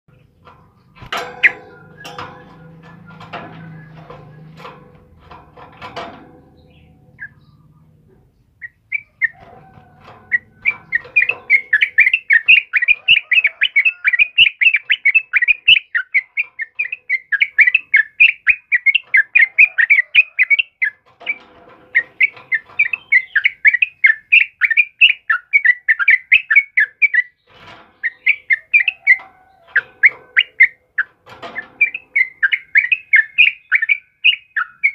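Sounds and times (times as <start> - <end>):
bird singing chattering notes: 0.1 - 9.5, 10.3 - 34.9.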